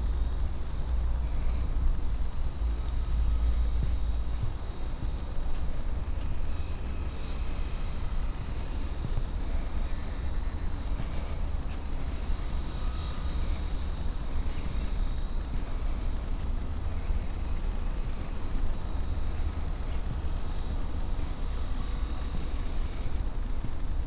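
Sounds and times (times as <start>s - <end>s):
model aeroplane motor buzzing: 0.0s - 24.0s
steady low rumble: 0.0s - 24.0s.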